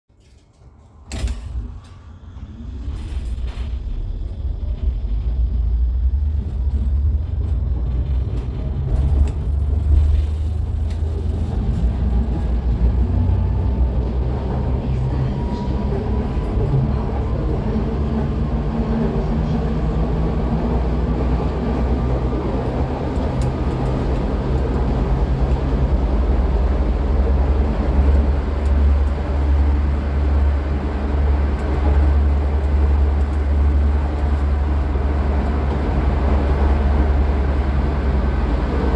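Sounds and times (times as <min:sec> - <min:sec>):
tram motor low hum: 0:00.2 - 0:38.9.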